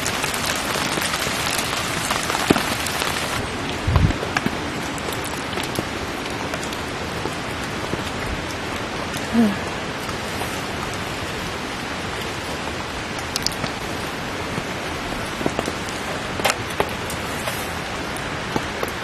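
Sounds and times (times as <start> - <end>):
water drips: 0.0 - 17.2
steady rain falling: 0.0 - 19.0.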